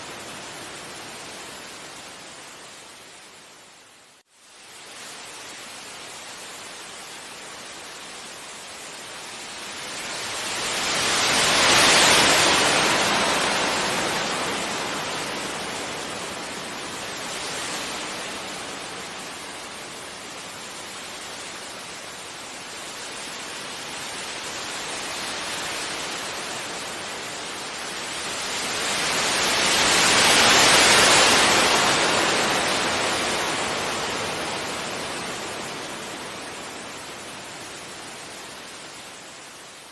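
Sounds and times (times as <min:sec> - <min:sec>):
sea waves breaking on beach: 0:04.9 - 0:39.9.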